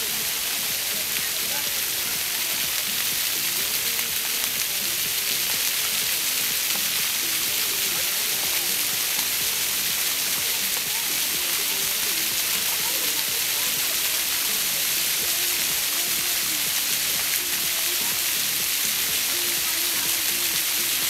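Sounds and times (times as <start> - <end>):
falling rain: 0.0 - 21.0
fountain water jets splashing: 0.0 - 21.0.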